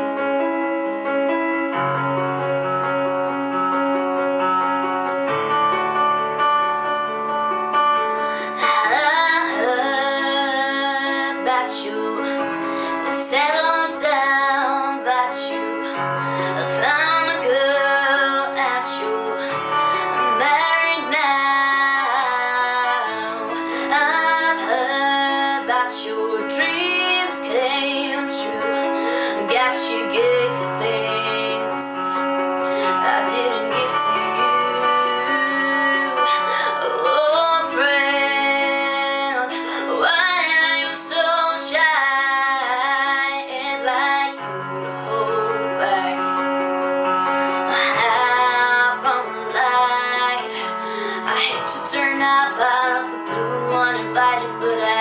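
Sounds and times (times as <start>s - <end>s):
piano chords: 0.0s - 55.0s
woman singing a ballad: 7.7s - 55.0s.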